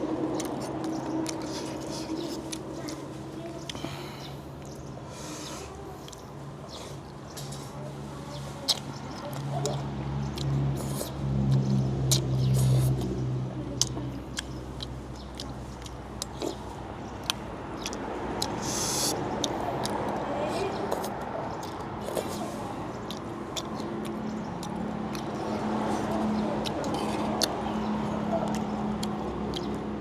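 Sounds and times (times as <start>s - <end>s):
chewing: 0.1s - 30.0s.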